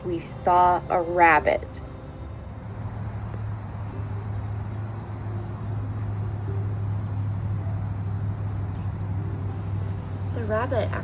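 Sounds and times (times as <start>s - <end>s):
insects chirping: 0.0s - 11.0s
low hum: 0.0s - 11.0s.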